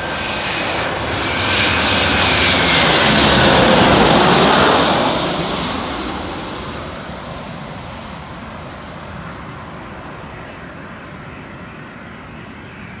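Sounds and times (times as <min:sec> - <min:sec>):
jet airliner engines: 0:00.0 - 0:13.0.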